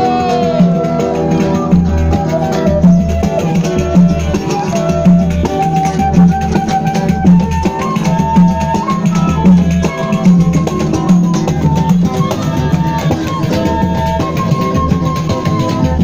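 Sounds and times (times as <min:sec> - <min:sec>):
drums: 0:00.0 - 0:16.0
fife melody: 0:00.0 - 0:16.0
guitar: 0:00.0 - 0:16.0.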